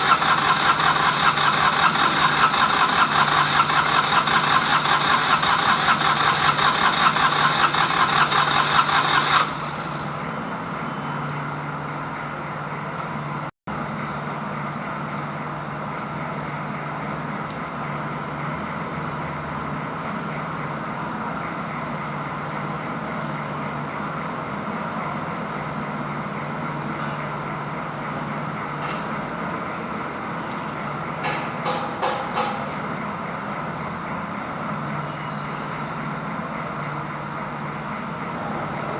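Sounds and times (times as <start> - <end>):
diesel engine clattering: 0.0 - 10.3, 16.2 - 38.9.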